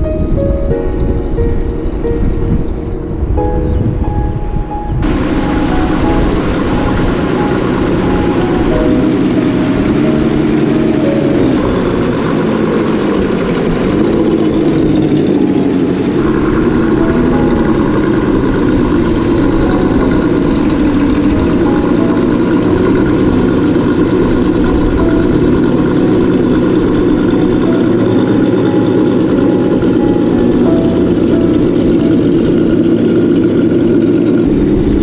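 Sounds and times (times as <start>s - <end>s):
simulated engine sound: 0.0s - 35.0s.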